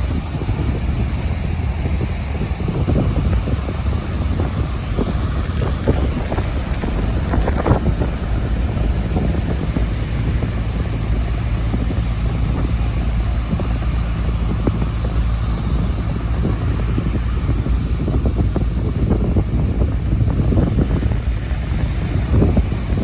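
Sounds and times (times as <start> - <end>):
heavy surf rushing: 0.0 - 23.0
wind buffeting microphone: 0.0 - 23.0.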